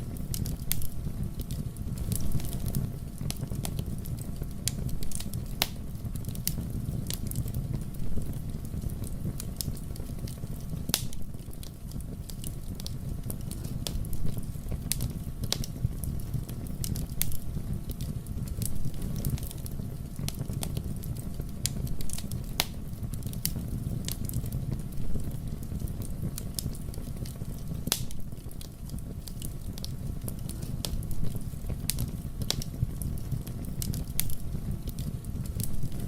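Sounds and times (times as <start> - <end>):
fire snapping: 0.0 - 36.0
wood fire crackling: 0.0 - 36.0.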